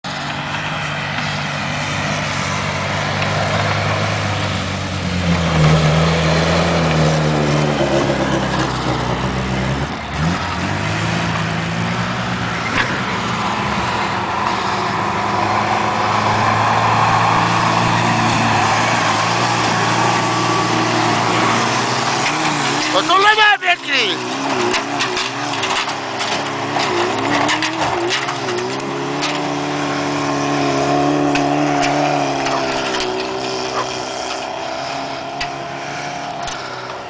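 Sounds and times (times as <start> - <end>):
off-road vehicle engine under load: 0.0 - 37.0.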